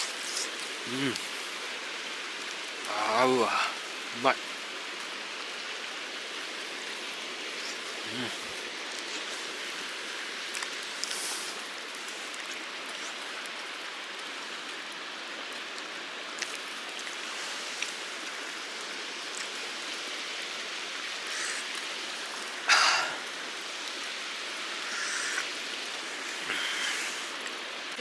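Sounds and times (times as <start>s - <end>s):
stream flowing: 0.0s - 28.0s.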